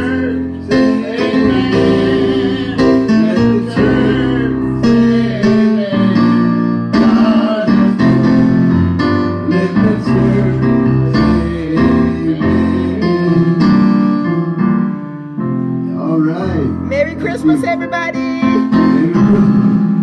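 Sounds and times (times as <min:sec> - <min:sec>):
bass line: 0:00.0 - 0:14.8, 0:15.4 - 0:20.0
gospel band music: 0:00.0 - 0:20.0
keyboard chords: 0:00.0 - 0:20.0.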